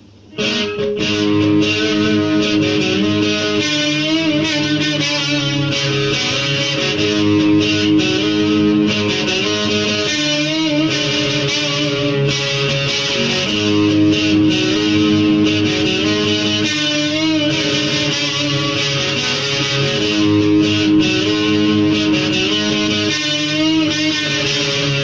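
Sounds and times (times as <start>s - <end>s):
electric guitar solo: 0.0s - 25.0s.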